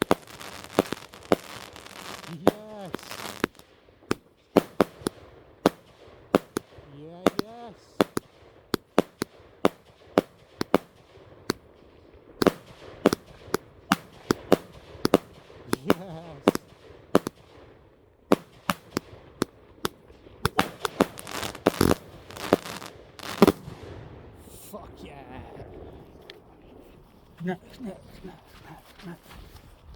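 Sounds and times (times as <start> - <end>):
firework bangs: 0.0 - 24.9.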